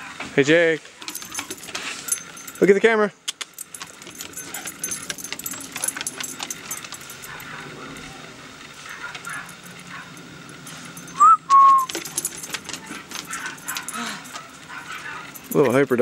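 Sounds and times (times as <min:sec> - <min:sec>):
metal collar tags jingling: 0:00.8 - 0:16.0.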